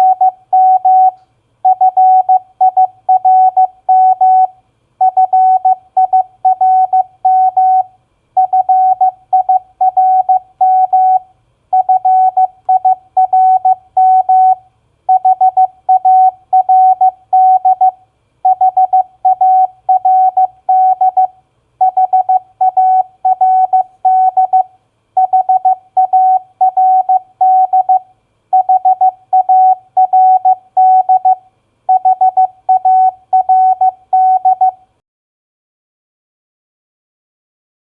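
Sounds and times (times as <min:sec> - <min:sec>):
morse code beep tone: 0:00.0 - 0:11.2, 0:11.8 - 0:34.8.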